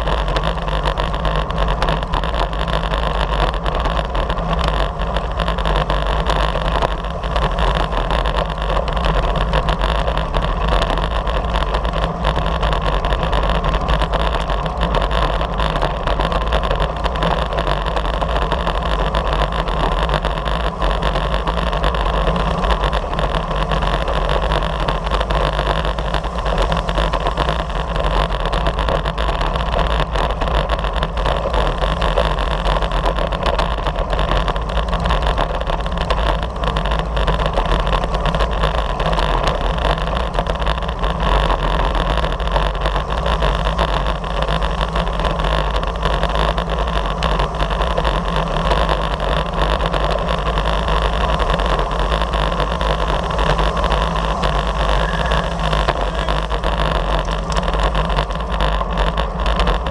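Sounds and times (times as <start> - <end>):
bicycle tyre hum on rough road: 0.0 - 59.9
wind rushing over microphone: 0.0 - 59.9.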